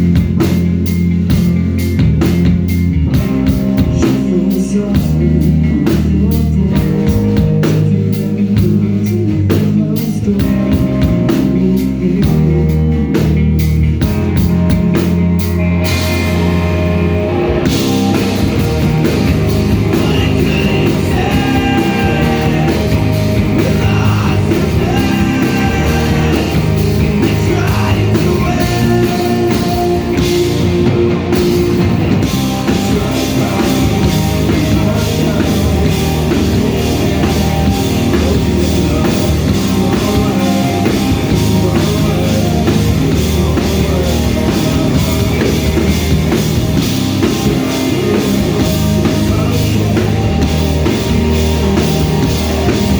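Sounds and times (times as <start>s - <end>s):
rock band playing live: 0.0s - 52.9s.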